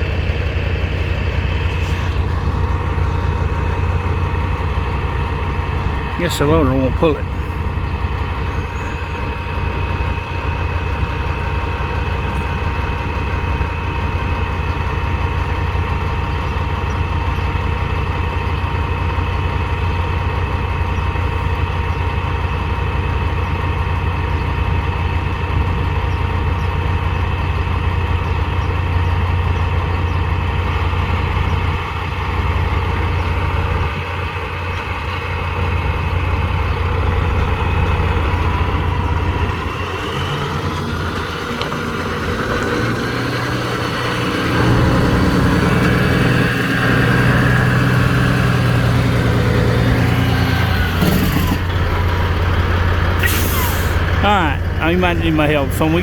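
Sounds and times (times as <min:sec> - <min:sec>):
heavy vehicle engine idling: 0:00.0 - 0:56.0.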